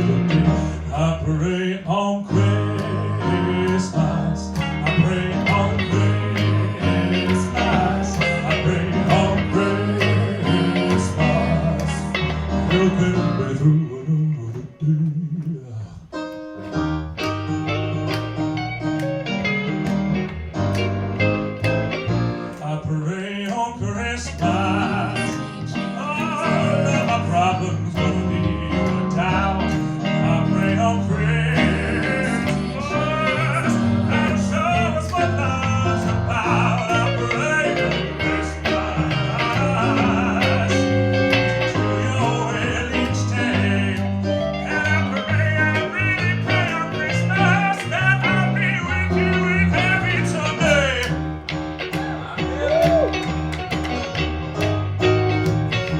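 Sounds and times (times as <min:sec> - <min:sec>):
bass: 0:00.0 - 0:55.9
guitar: 0:00.0 - 0:55.9.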